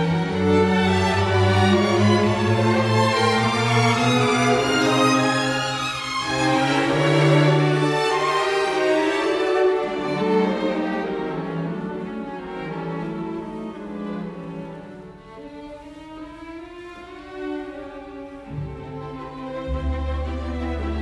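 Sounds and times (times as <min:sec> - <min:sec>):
slow bowed strings music: 0:00.0 - 0:21.0.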